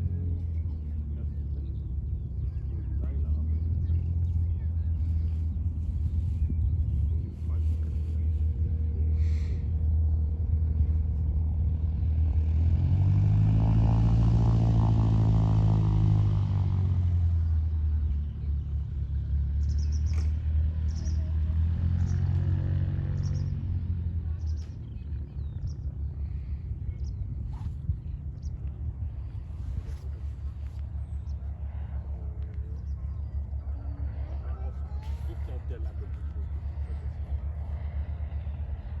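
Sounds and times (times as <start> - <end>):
propeller aircraft engine droning: 0.0 - 39.0.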